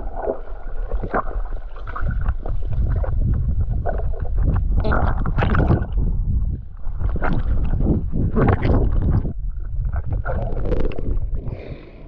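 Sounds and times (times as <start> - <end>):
muffled underwater water rushing: 0.0 - 12.0.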